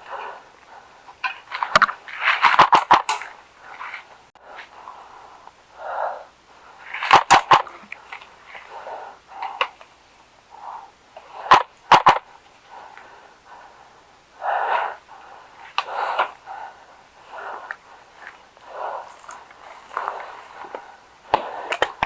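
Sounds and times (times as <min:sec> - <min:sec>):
soft breath-like hisses: 0:00.0 - 0:22.0.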